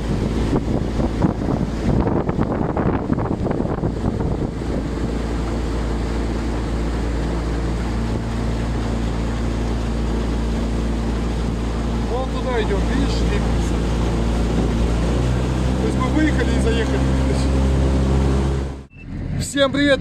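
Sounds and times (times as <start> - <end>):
wind buffeting microphone: 0.0 - 18.8
vehicle engine humming: 0.0 - 20.0.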